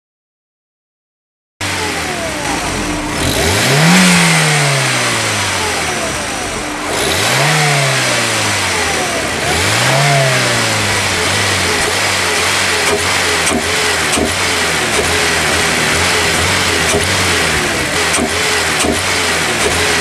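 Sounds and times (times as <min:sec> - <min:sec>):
car engine revving: 0:01.6 - 0:20.0.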